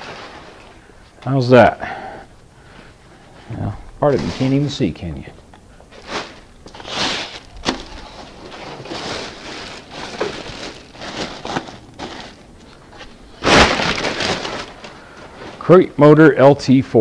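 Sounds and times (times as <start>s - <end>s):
plastic wrapping rustling: 0.0s - 1.8s, 2.6s - 16.6s.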